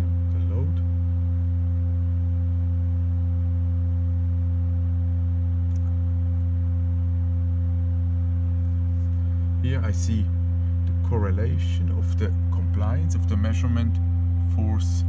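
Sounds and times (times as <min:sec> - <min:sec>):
testing machine humming: 0:00.0 - 0:15.0.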